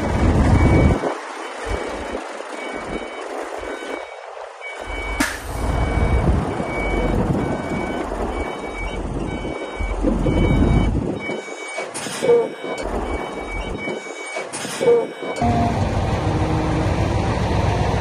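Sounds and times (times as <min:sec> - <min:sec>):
diesel engine rumble: 0:00.0 - 0:18.0
reversing alarm beeping: 0:00.2 - 0:17.0.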